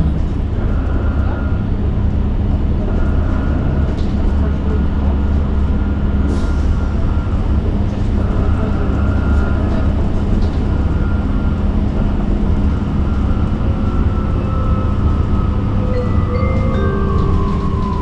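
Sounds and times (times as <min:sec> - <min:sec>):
road rumble in bus cabin: 0:00.0 - 0:18.0.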